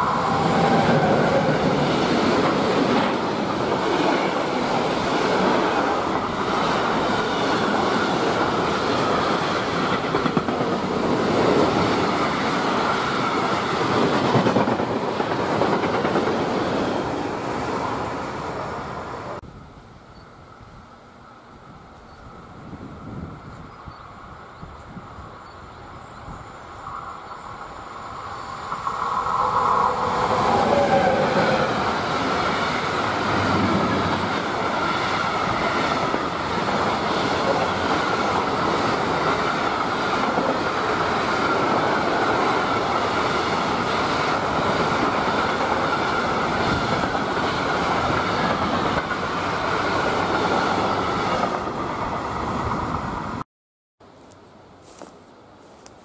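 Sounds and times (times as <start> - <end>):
electric locomotive whine: 0.0 - 53.4.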